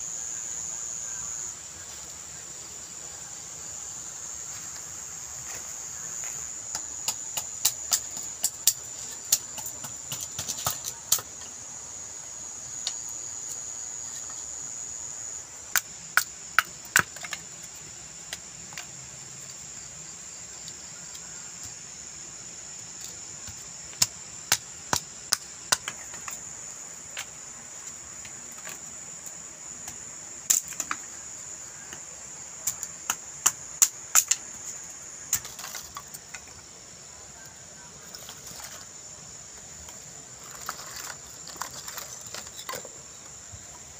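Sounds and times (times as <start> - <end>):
high-pitched insect chirr: 0.0 - 43.9.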